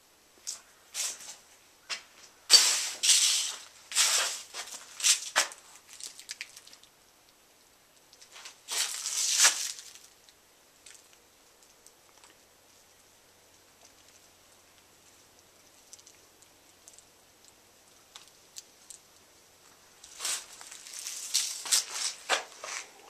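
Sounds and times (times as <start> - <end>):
crunching and rustling: 0.4 - 7.4, 8.0 - 23.0.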